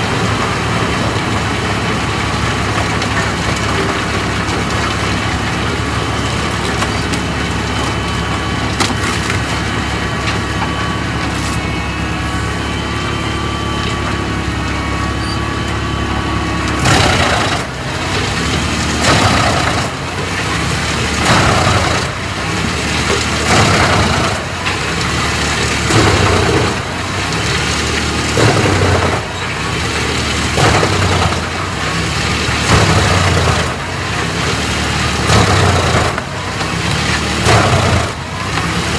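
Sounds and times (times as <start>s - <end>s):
wood chipper crunching wood: 0.0s - 38.9s
wood chipper engine running: 0.0s - 38.9s.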